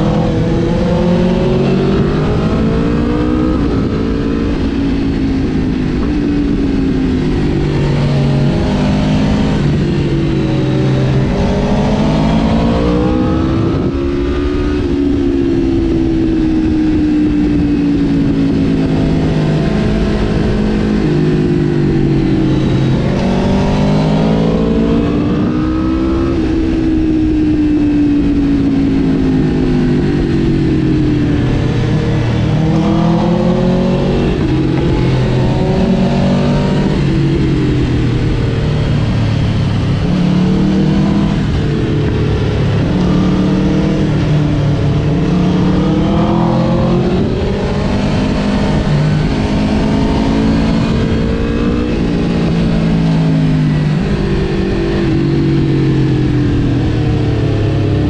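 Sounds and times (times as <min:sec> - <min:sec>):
motorcycle engine revving: 0:00.0 - 0:58.0
wind noise rushing: 0:00.0 - 0:58.0.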